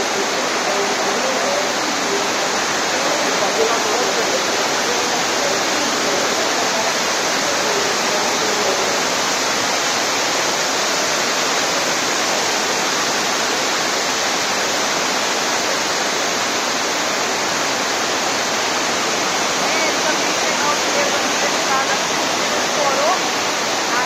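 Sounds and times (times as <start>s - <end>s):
water rushing down stairs: 0.0s - 24.0s.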